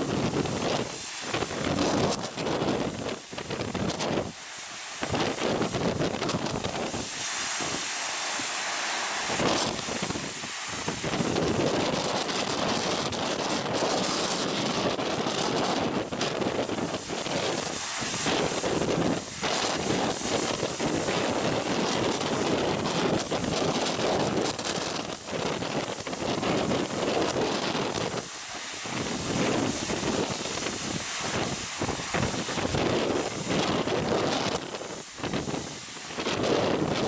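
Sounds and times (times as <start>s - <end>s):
storm waves breaking: 0.0s - 37.0s
water cascading down wall: 0.0s - 37.0s
wind buffeting microphone: 0.0s - 37.0s.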